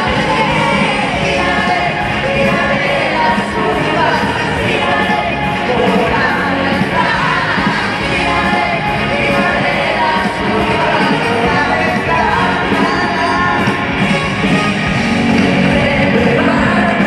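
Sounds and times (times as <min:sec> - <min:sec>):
women singing: 0:00.0 - 0:14.1, 0:15.0 - 0:17.0
live pop band playing: 0:00.0 - 0:17.0.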